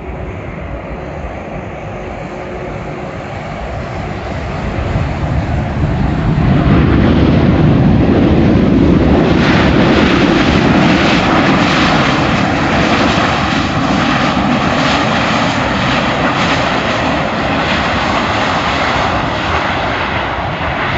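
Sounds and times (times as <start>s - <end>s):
jet airliner landing roar: 0.0s - 20.9s.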